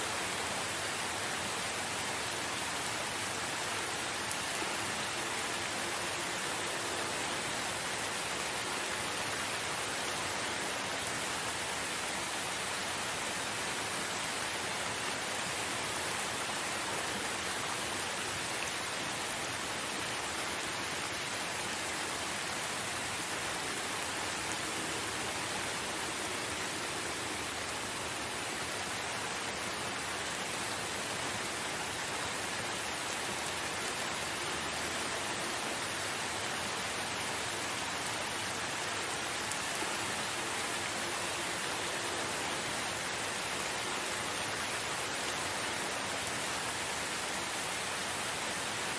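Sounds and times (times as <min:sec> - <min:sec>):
steady rain in forest: 0:00.0 - 0:48.9.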